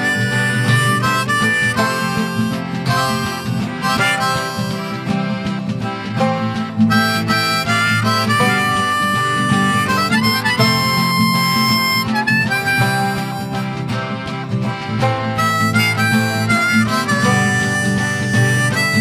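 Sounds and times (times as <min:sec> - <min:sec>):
harmonica playing: 0:00.0 - 0:19.0
strummed guitar: 0:00.0 - 0:19.0.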